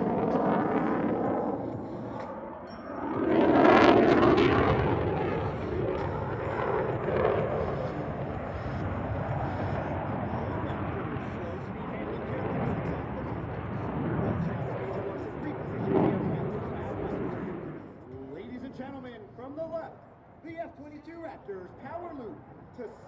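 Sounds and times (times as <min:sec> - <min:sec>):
jet engine noise: 0:00.0 - 0:23.0.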